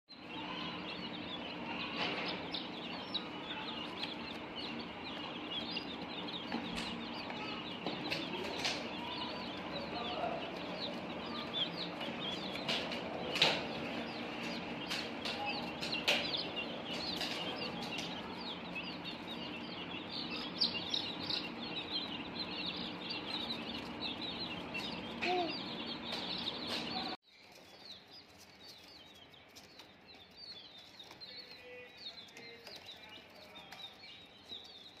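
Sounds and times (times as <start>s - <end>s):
chicks peeping: 0.1s - 35.0s.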